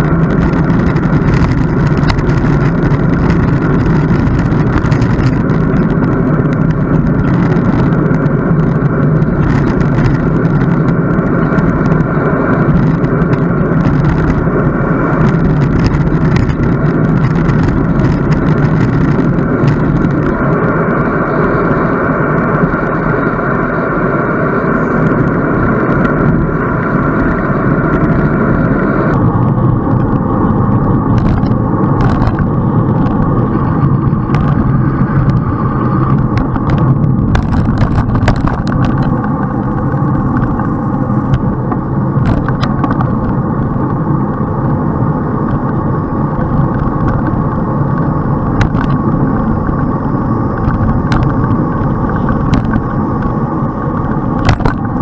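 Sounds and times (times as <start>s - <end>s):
wind rush over microphone: 0.0s - 55.0s.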